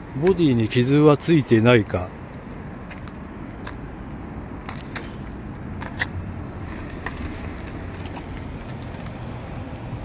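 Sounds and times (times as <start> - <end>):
vehicle engine rumbling: 1.6 - 10.0.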